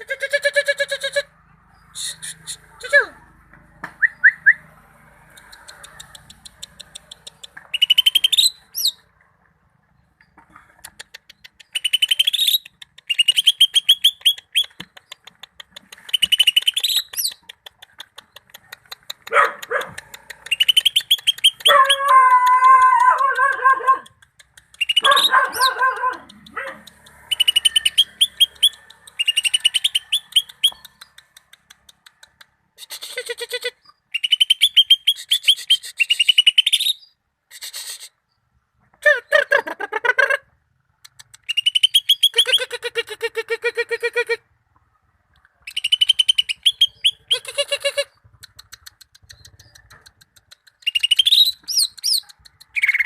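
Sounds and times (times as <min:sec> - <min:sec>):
bird singing rapid chattering: 0:00.8 - 0:02.8, 0:04.0 - 0:09.1, 0:09.9 - 0:37.2, 0:40.9 - 0:42.7, 0:45.6 - 0:53.0.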